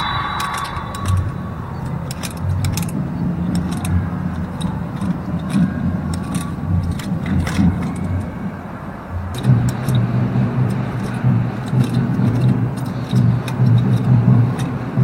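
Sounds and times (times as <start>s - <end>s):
bicycle hub ratcheting and clicks: 0.0s - 15.0s
steady low hum: 0.0s - 15.0s.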